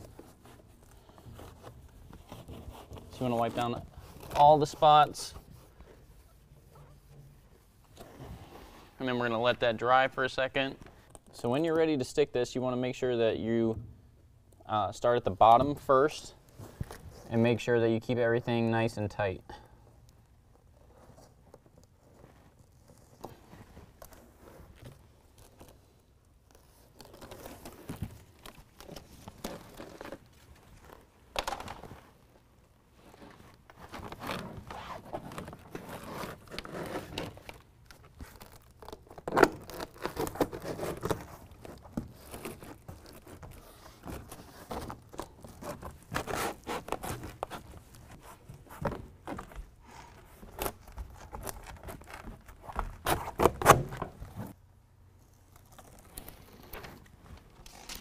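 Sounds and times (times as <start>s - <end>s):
rustling and crinkling: 0.0s - 11.9s, 15.3s - 17.6s, 19.9s - 58.0s.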